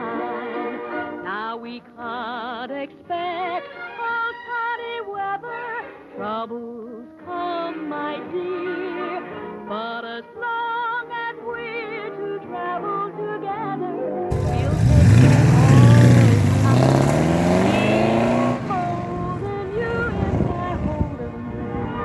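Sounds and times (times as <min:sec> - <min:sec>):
song with vibrato singing: 0:00.0 - 0:22.0.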